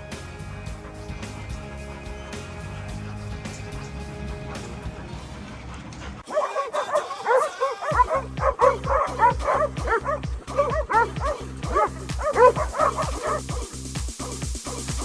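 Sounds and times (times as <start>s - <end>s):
music with thudding bass beat: 0.0s - 5.7s, 7.9s - 15.0s
dogs barking and yipping: 0.0s - 15.0s.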